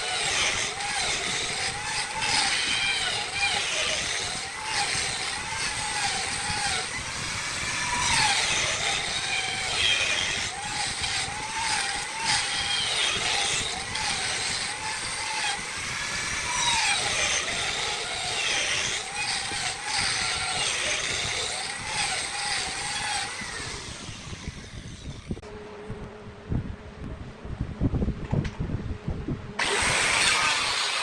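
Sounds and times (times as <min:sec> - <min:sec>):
angle grinder motor whine: 0:00.0 - 0:26.2, 0:29.6 - 0:31.0.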